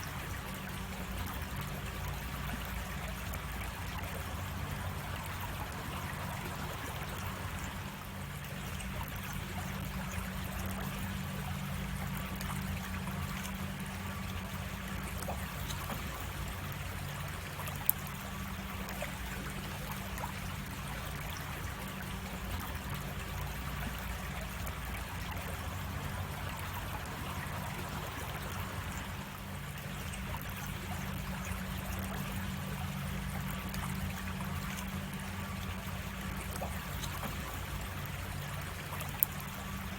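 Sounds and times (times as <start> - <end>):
water running over rocks: 0.0 - 39.9.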